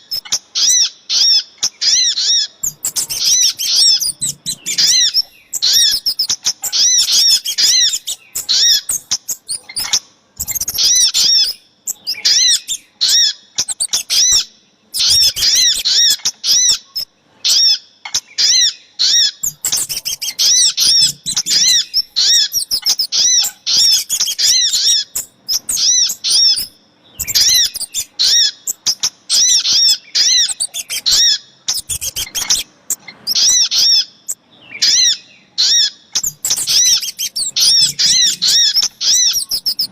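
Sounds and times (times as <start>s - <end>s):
rapid high bird chirping: 0.0s - 0.4s, 1.8s - 17.6s, 18.4s - 39.9s.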